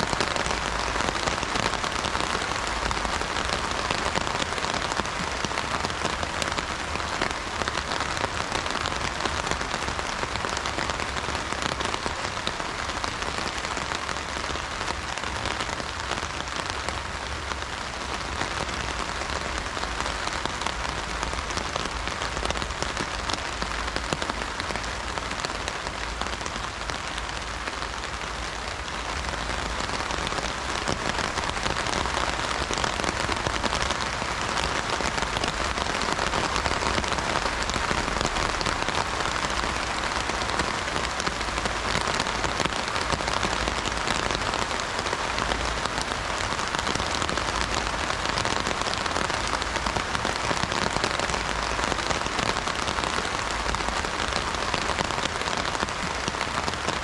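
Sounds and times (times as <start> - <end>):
heavy rain drumming on umbrella: 0.0 - 57.0.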